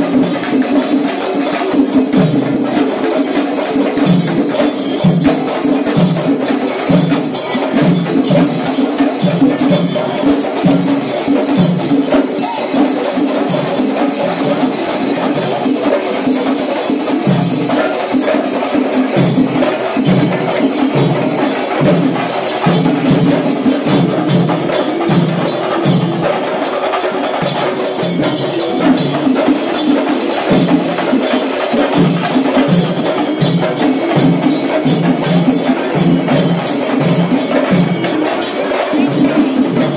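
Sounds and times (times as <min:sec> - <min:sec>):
drums beaten in driving rhythm: 0:00.0 - 0:39.9
hand cymbals clashing: 0:00.0 - 0:39.9.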